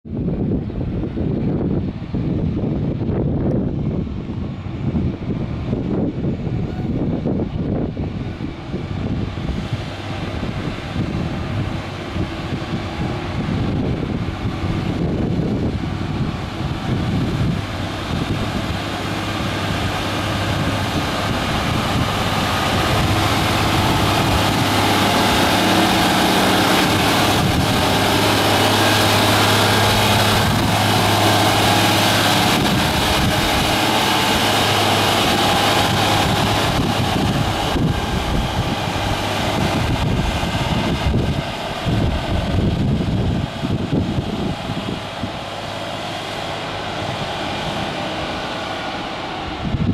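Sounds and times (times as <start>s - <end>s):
wind buffeting microphone: 0.0s - 49.9s
diesel truck engine passing: 0.1s - 49.9s.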